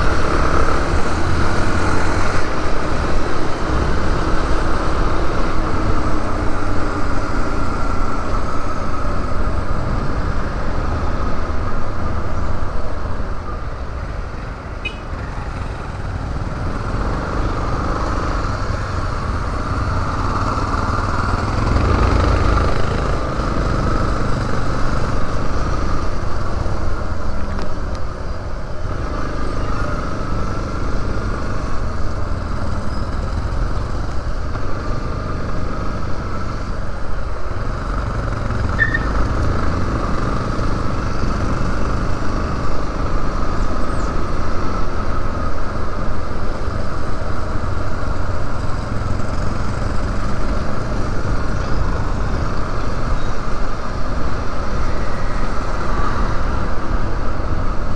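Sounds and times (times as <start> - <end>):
wind rumble on camera: 0.0 - 57.9.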